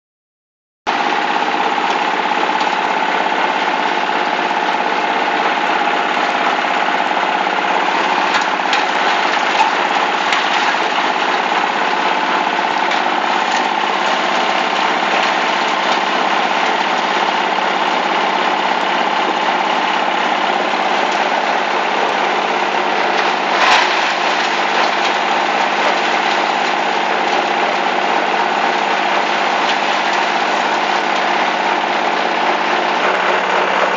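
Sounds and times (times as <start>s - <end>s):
engine-driven chopper running: 0.9s - 33.9s.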